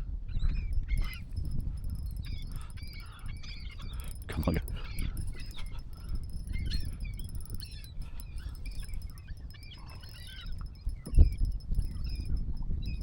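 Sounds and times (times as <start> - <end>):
wind rumble on microphone: 0.0 - 13.0
seabirds calling: 0.5 - 13.0.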